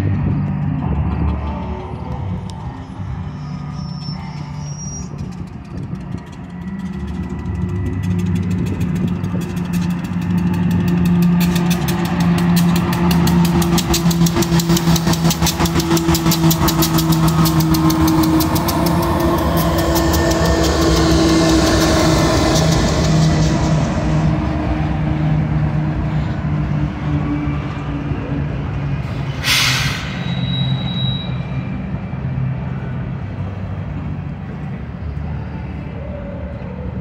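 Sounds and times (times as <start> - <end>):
diesel locomotive engines droning: 0.0 - 37.0
rhythmic train wheel clatter: 0.0 - 37.0.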